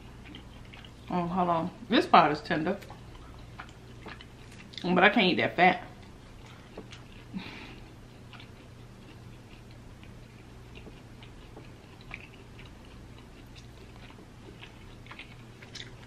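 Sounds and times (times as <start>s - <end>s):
chewing clicks and smacks: 0.1s - 1.1s, 2.8s - 4.9s, 6.0s - 16.0s.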